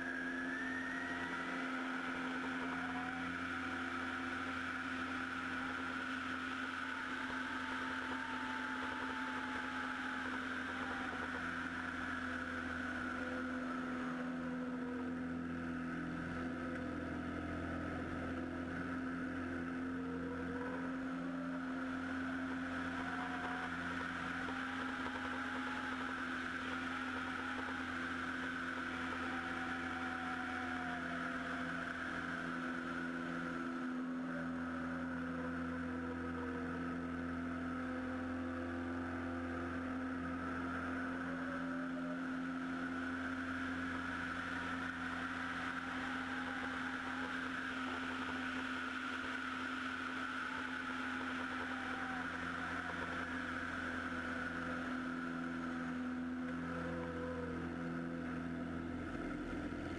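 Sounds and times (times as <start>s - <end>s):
airplane engine and propeller droning: 0.0s - 59.9s.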